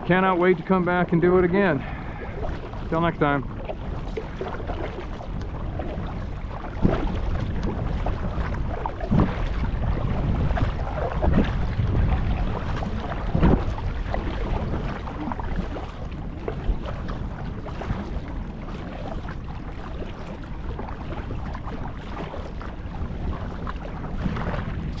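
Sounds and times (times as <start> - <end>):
water lapping against kayak hull: 0.0 - 25.0
wind buffeting microphone: 0.0 - 25.0.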